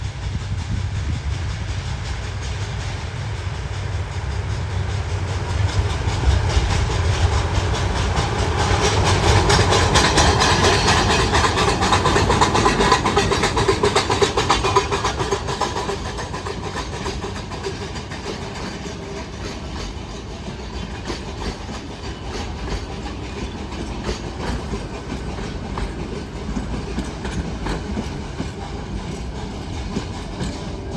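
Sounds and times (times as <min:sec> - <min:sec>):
steam train rumble: 0:00.0 - 0:30.9
wheels clattering on rails: 0:00.0 - 0:30.9.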